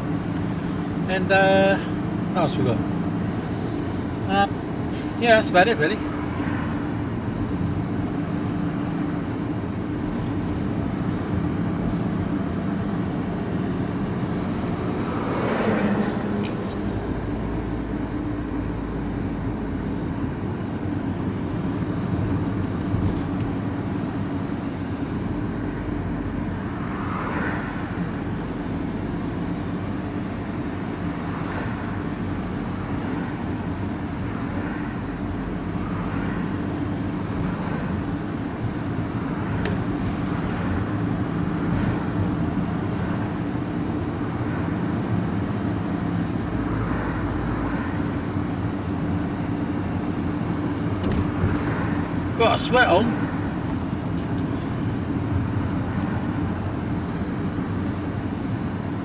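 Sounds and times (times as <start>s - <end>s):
passing traffic: 0.0s - 59.0s
road noise: 0.0s - 59.0s
van engine droning: 0.0s - 59.0s.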